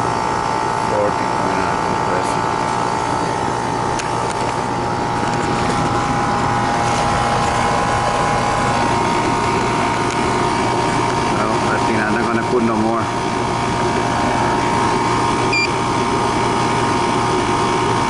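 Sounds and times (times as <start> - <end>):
air conditioning unit droning: 0.0 - 18.0
steady whining tone: 0.0 - 18.0.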